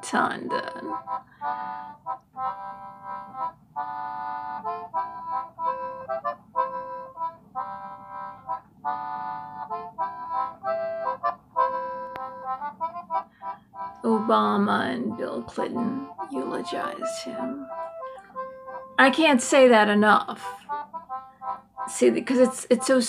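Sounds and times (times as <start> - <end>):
instrumental music of held chords: 0.1 - 23.0.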